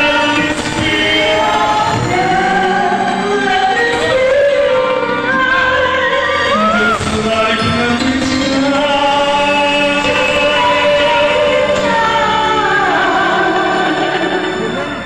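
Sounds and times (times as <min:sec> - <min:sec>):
backing track: 0:00.0 - 0:15.0
man and woman singing duet: 0:00.0 - 0:15.0.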